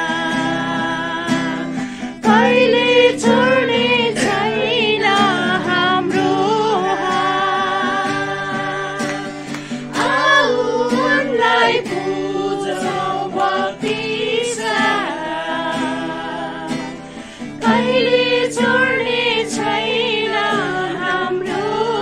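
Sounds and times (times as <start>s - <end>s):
strummed acoustic guitar: 0.0s - 22.0s
young woman singing: 0.0s - 22.0s.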